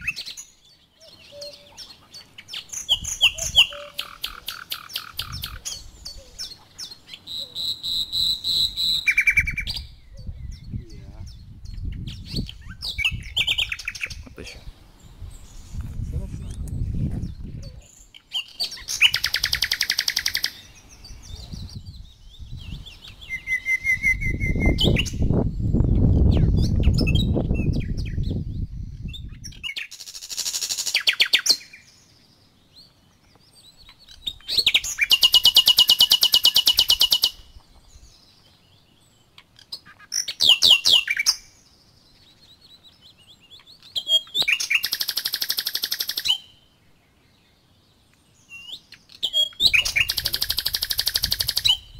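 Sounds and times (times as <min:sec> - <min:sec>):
songbirds trilling: 0:00.0 - 0:51.9.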